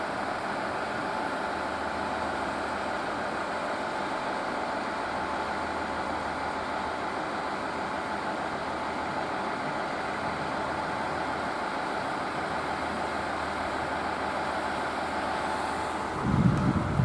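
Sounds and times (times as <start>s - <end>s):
stationary trains humming: 0.0s - 17.0s.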